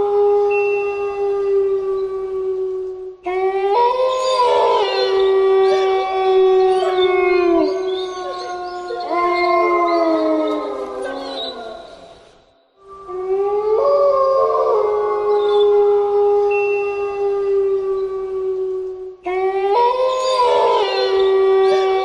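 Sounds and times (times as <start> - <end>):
wolves howling in chorus: 0.0 - 22.0.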